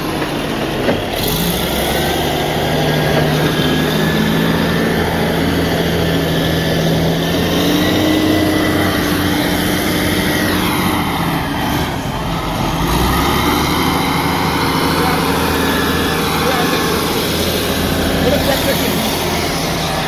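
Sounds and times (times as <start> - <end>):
wheel loader diesel engine: 0.0 - 20.0.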